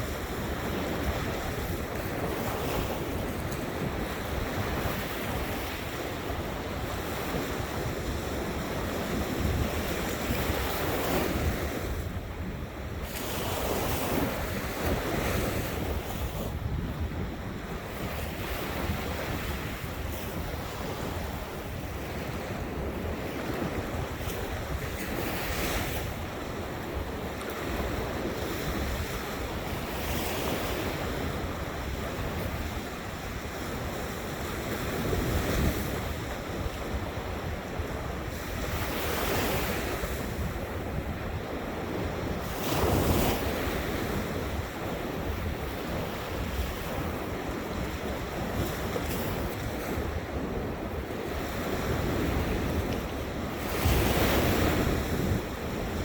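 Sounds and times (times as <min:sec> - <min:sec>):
ocean surf breaking on shore: 0:00.0 - 0:56.0
wind rumbling on microphone: 0:00.0 - 0:56.0.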